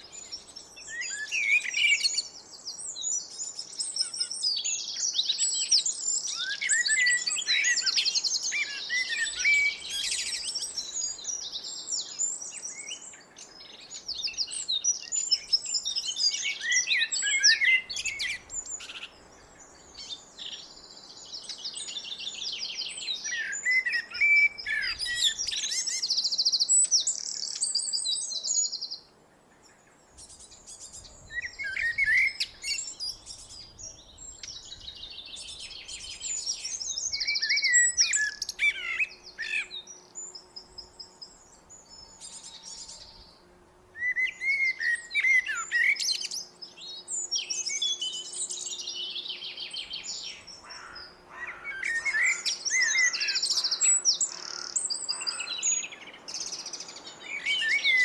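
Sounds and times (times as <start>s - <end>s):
blackbird singing: 0.0s - 58.0s.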